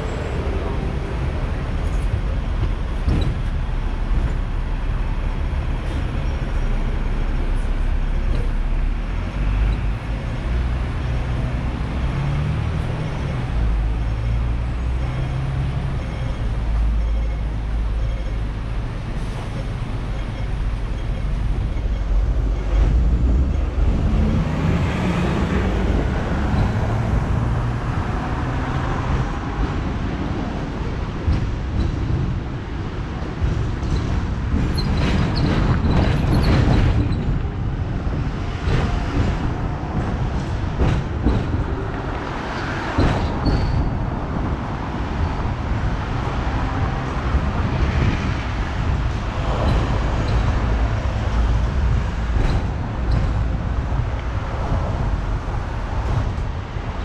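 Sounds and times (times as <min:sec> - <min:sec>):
road traffic: 0:00.0 - 0:57.0
tram rumbling on rails: 0:00.0 - 0:57.0.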